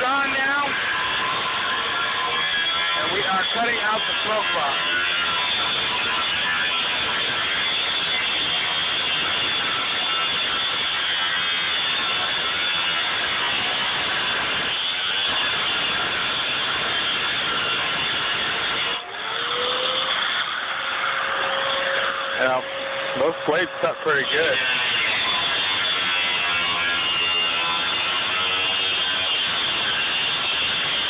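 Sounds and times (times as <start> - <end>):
angle grinder cutting steel: 0.0 - 31.0.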